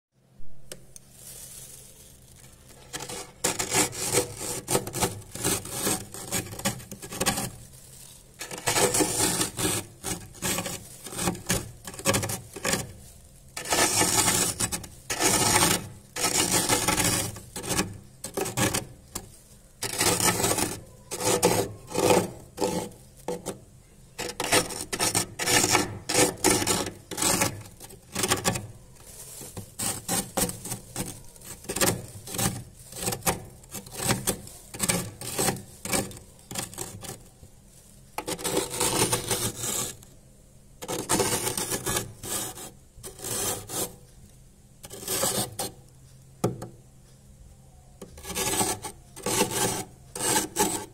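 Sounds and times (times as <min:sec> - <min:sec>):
spoon scraping freezer frost: 0:01.0 - 0:37.4, 0:38.2 - 0:40.1, 0:40.8 - 0:44.0, 0:44.8 - 0:45.8, 0:48.1 - 0:50.9.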